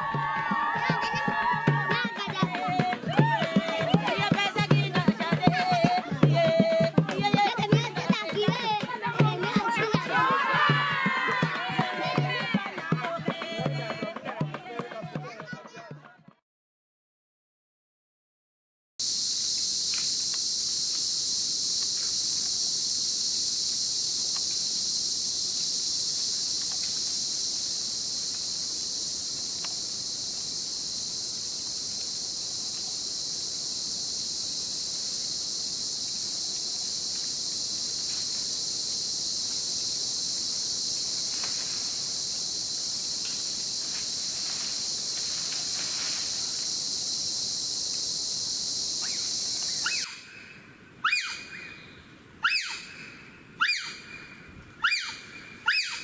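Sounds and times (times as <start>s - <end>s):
chorus of forest insects: 0.0s - 15.9s, 19.0s - 56.0s.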